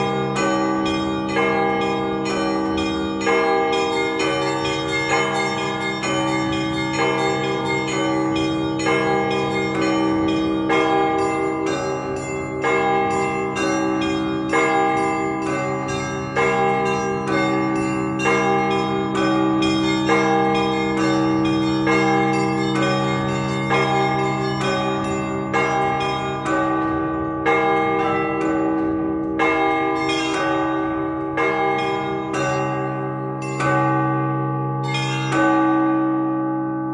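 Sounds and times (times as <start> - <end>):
heavy bell strokes: 0.0 - 36.9
large bells humming: 0.0 - 36.9.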